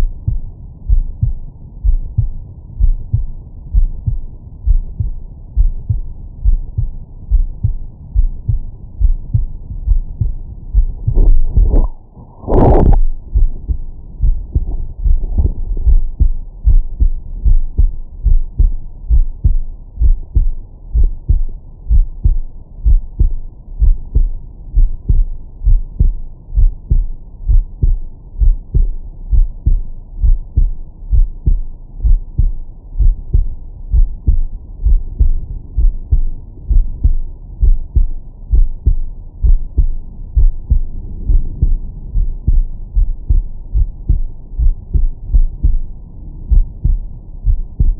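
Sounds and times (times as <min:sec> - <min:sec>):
heartbeat thumps: 0:00.0 - 0:47.9.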